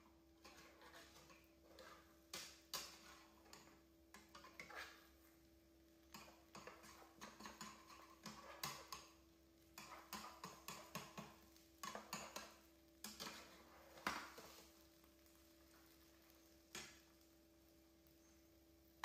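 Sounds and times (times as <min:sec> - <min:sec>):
metal spatula scraping a frying pan: 0:00.4 - 0:05.2, 0:06.0 - 0:17.1.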